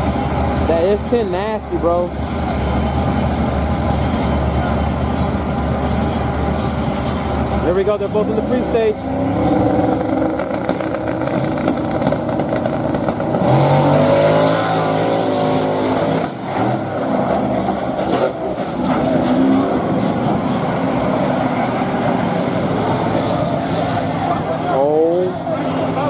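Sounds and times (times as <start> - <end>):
drag race cars revving: 0.0 - 26.0
race cars accelerating: 0.0 - 26.0.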